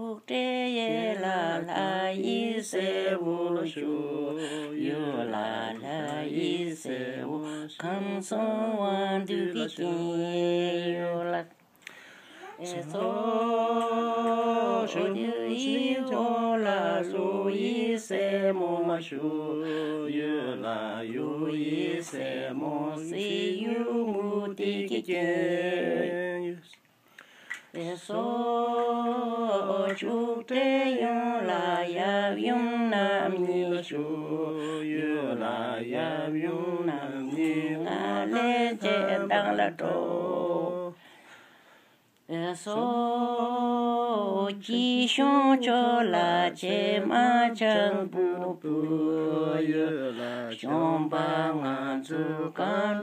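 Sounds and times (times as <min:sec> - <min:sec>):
person singing unaccompanied: 0:00.0 - 0:11.6, 0:12.4 - 0:26.8, 0:27.7 - 0:41.0, 0:42.3 - 0:53.0.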